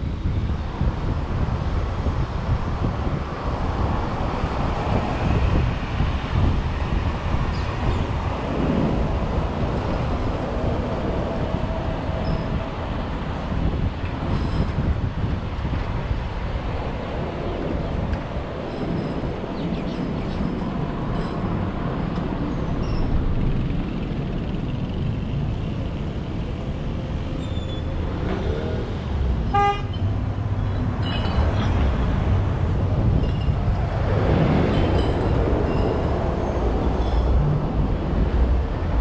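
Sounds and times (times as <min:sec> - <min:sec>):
road and wind noise of vehicle: 0:00.0 - 0:39.0.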